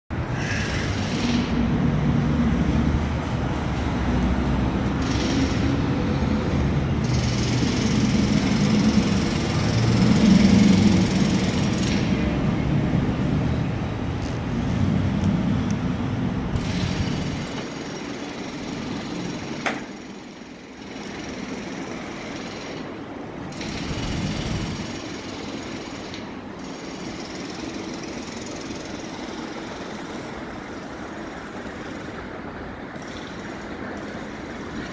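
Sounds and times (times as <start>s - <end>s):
subway train rumbling and clattering: 0.2s - 34.9s.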